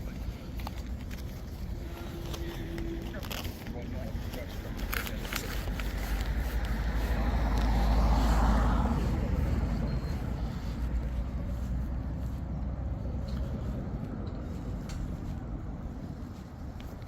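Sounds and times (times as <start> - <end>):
steady low rumble: 0.0 - 17.0
vehicle passing: 0.0 - 17.0.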